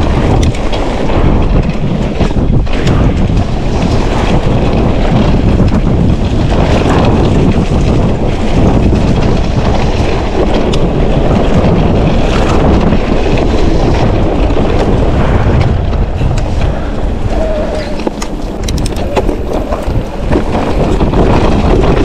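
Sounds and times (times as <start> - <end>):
bike clattering: 0.0 - 22.0
tyres rolling over dirt: 0.0 - 22.0
wind buffeting microphone: 0.0 - 22.0.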